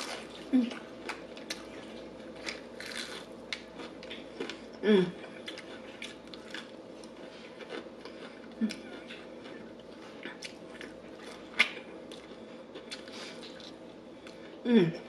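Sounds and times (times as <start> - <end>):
chewing crispy fried chicken: 0.0 - 14.4.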